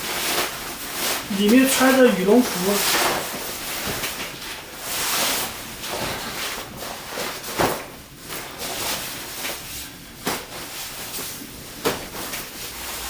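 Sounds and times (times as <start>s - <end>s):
rustling and shuffling: 0.0s - 13.0s.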